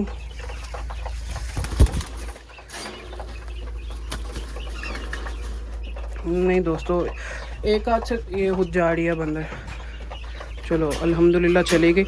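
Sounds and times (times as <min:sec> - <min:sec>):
hens clucking: 0:00.0 - 0:12.0
cage rattles and clicks: 0:00.1 - 0:12.0.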